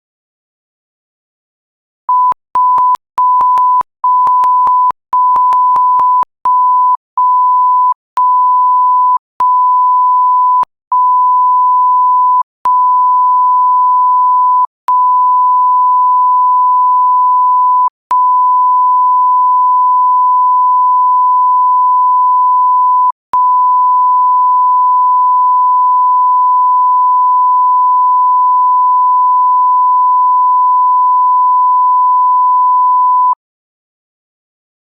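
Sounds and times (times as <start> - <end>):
sine tone beeps: 2.1 - 33.4.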